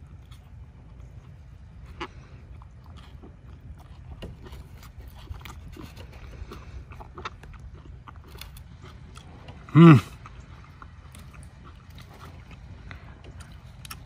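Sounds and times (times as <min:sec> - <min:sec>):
low steady rumble: 0:00.0 - 0:14.0
person chewing: 0:00.0 - 0:14.0.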